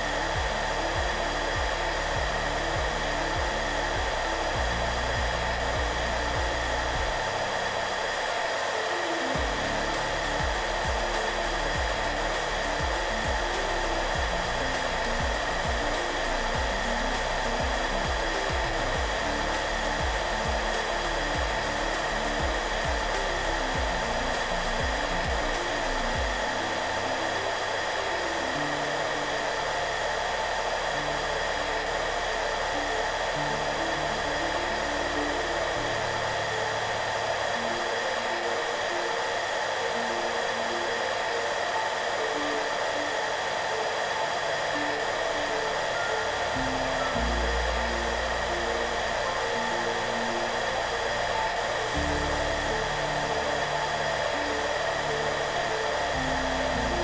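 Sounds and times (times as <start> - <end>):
hair dryer running: 0.0 - 57.0
soft background music: 0.0 - 57.0.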